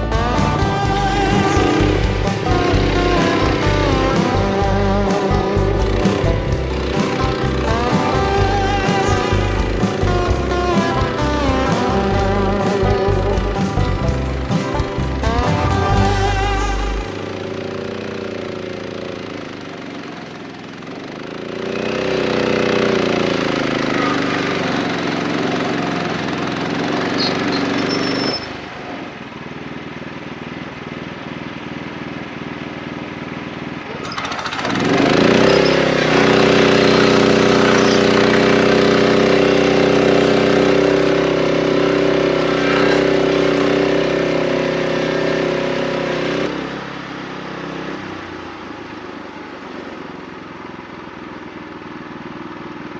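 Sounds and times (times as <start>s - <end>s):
band saw cutting log: 0.0s - 28.9s, 34.0s - 48.4s
sawmill engine running: 0.0s - 32.4s, 33.2s - 52.9s.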